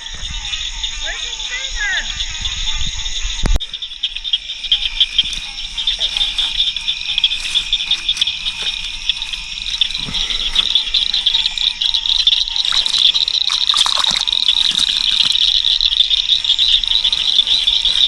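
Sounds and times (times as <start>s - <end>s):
frogs trilling in chorus: 0.0s - 18.0s.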